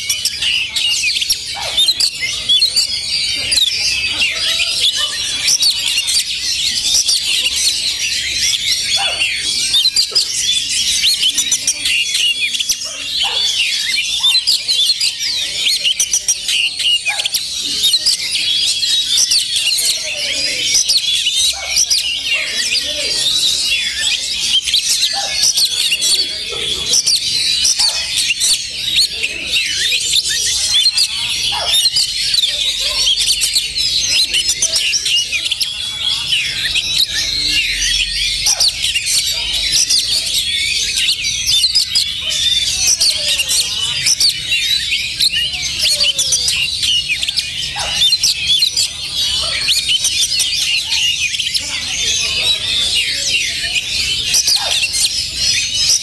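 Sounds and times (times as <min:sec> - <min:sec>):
birds singing high whistles: 0:00.0 - 0:56.0.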